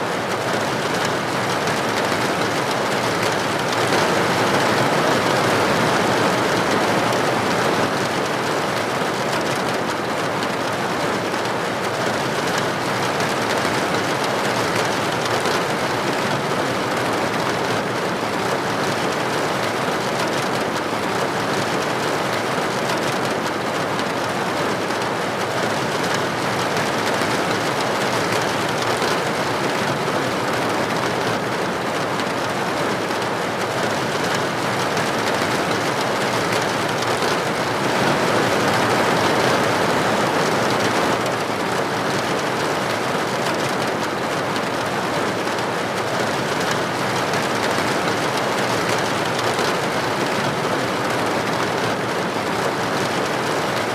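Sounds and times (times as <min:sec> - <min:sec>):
rain pattering on a surface: 0:00.0 - 0:53.9.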